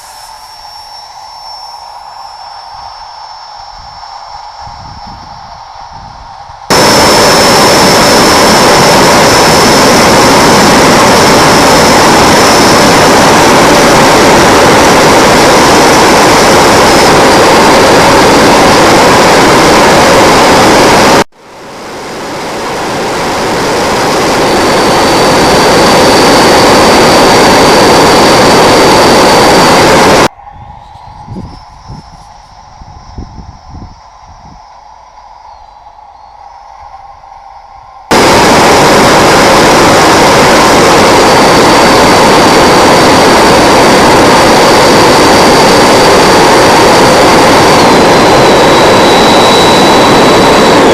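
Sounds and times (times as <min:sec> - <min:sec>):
model jet rushing roar: 0:00.0 - 0:35.0, 0:38.0 - 0:50.9
thin high whine: 0:00.0 - 0:50.9.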